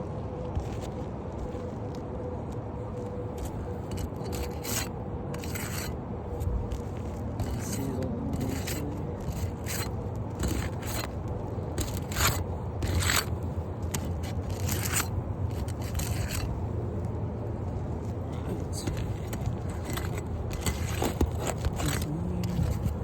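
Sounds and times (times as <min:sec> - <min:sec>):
tool scraping roof shingles: 0:03.3 - 0:16.7, 0:17.6 - 0:23.0.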